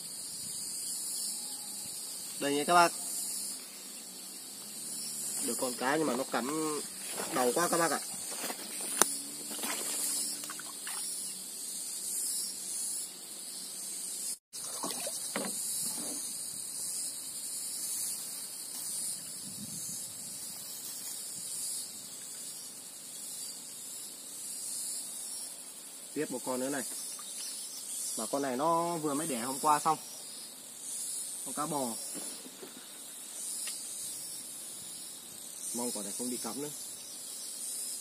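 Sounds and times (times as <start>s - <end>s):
insects droning high-pitched: 0.0s - 38.0s.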